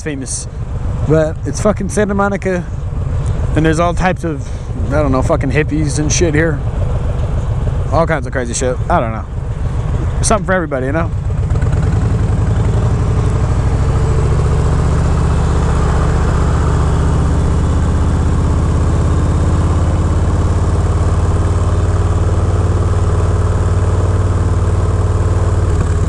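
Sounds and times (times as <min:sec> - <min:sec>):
motorcycle engine running low revs: 0:00.0 - 0:26.0.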